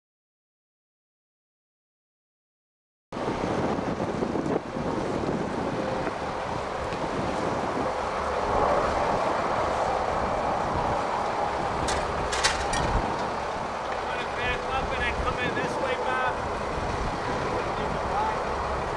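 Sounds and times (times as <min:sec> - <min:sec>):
steady engine drone: 0:03.2 - 0:18.9
wind buffeting microphone: 0:03.2 - 0:18.9.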